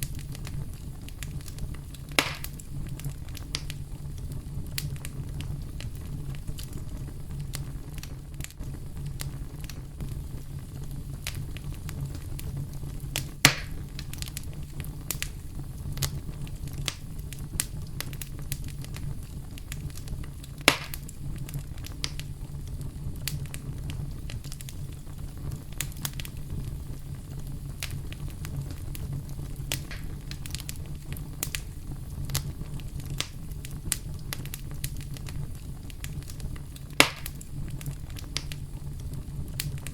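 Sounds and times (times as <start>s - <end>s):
campfire crackling and popping: 0.0s - 39.9s
loud fire snaps: 0.0s - 39.9s
low brown noise: 0.0s - 39.9s.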